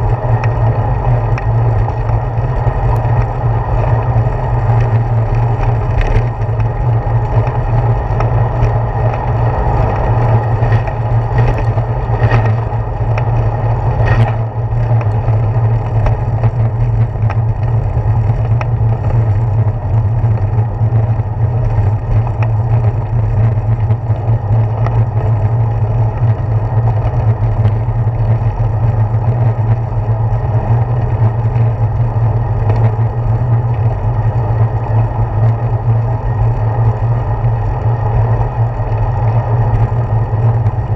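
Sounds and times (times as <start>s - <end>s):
bicycle road vibration: 0.0s - 40.9s
wind rumble: 0.0s - 40.9s.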